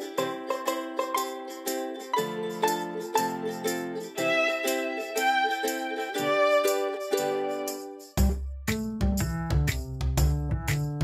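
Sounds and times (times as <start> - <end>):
plucked string tune: 0.0 - 11.0.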